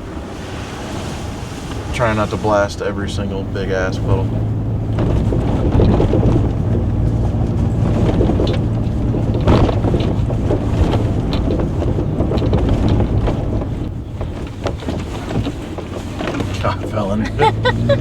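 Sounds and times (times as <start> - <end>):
truck engine and tyre drone: 0.0 - 18.0
water splashing against truck: 0.0 - 18.0.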